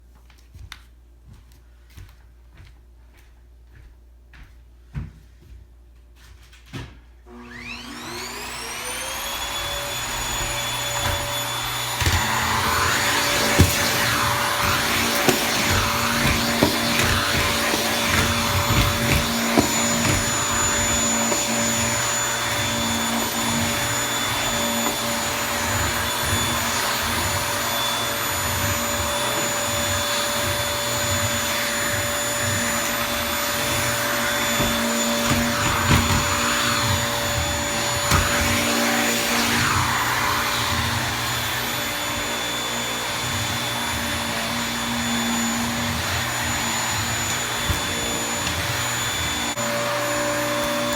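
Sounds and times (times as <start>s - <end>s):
vacuum cleaner running: 7.2s - 50.9s.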